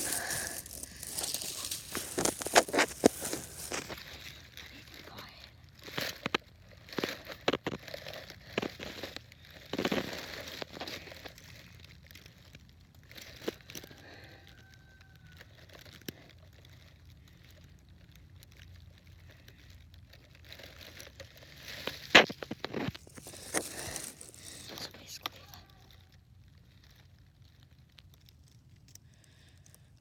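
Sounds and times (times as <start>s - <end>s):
rustling and crackling: 0.0s - 30.0s.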